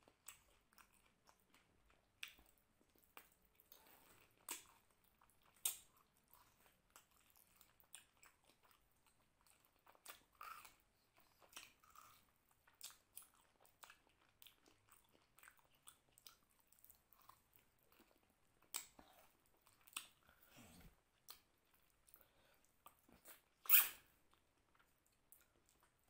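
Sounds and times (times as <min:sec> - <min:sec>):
faint chewing mouth clicks: 0:00.0 - 0:26.0.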